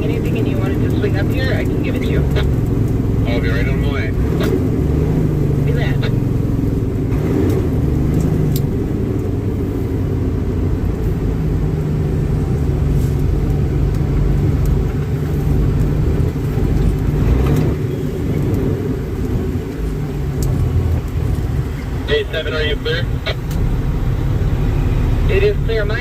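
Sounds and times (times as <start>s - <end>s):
truck diesel engine drone: 0.0s - 26.0s.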